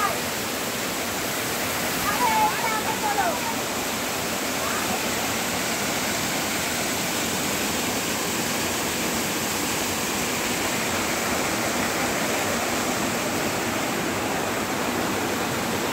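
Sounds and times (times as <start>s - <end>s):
waterfall splashing over rocks: 0.0s - 15.9s.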